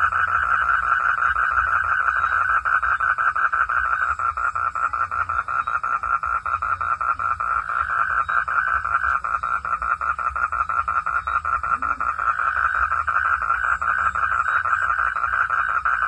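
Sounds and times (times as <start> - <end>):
frogs calling in chorus: 0.0 - 16.0.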